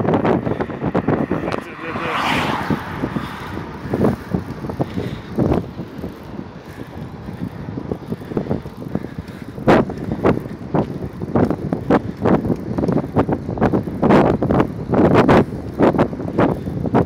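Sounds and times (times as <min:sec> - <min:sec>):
bicycle frame rattling: 0:00.0 - 0:17.0
wind on microphone: 0:00.0 - 0:17.0.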